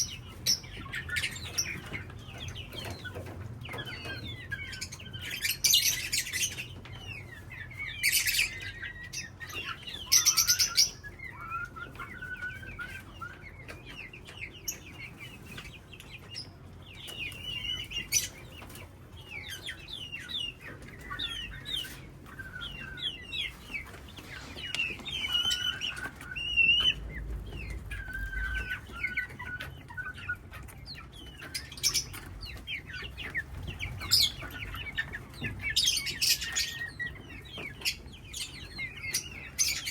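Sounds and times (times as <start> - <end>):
parrots chirping and calling: 0.0 - 39.9.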